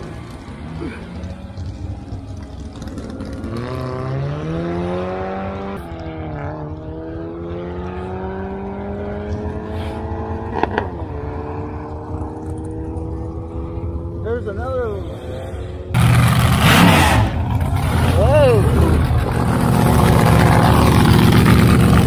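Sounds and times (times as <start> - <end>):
racing car engine accelerating: 0.0 - 14.2, 15.2 - 22.0.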